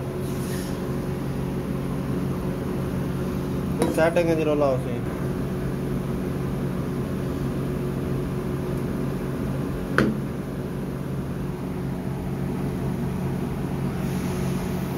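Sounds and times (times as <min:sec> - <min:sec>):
low mechanical hum with hiss: 0:00.0 - 0:14.9.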